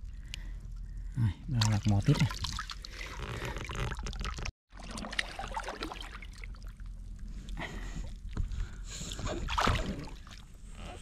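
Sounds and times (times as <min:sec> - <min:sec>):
water trickling and sloshing: 0:00.0 - 0:11.0.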